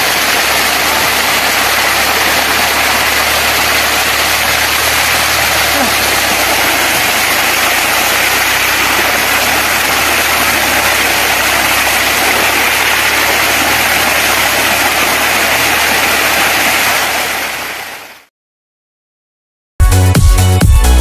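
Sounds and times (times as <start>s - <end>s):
water gushing into a tank: 0.0s - 18.3s.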